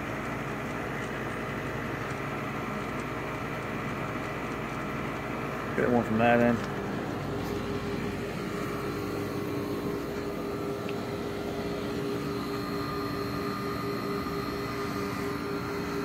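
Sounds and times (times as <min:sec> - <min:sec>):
air conditioners whirring: 0:00.0 - 0:16.0.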